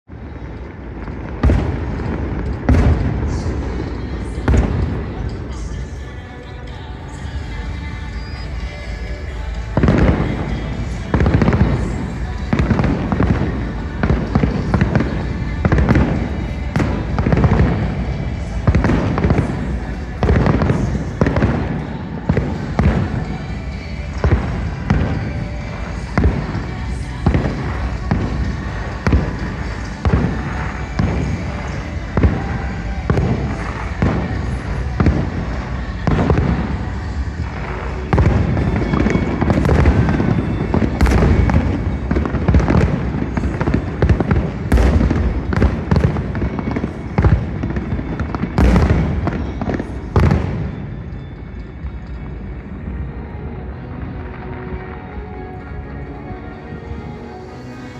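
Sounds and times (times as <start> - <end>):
fireworks booming and crackling: 0.0 - 57.9
music playing: 0.1 - 57.9.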